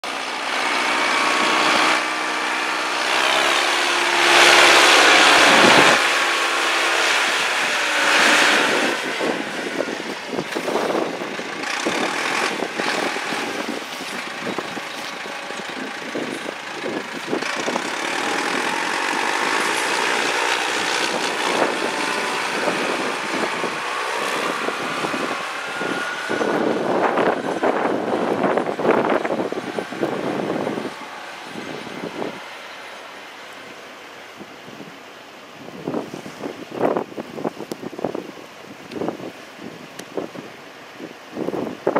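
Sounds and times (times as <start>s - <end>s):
rushing noise: 0.0s - 38.2s
wheel loader diesel engine: 0.0s - 41.9s.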